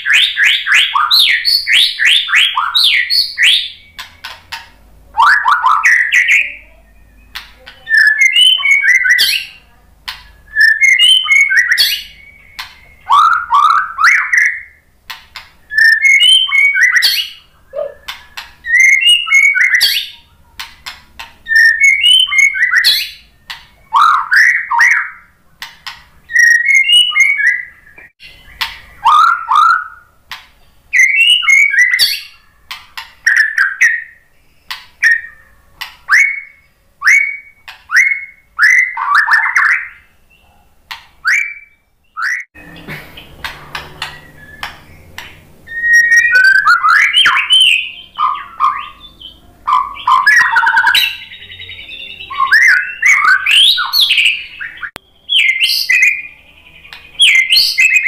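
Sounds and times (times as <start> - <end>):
songbird singing rich whistles: 0.0 - 4.4, 5.2 - 9.7, 10.4 - 14.9, 15.7 - 20.3, 21.4 - 25.4, 26.2 - 30.2, 30.9 - 32.5, 33.2 - 40.6, 41.2 - 42.5, 44.0 - 58.0.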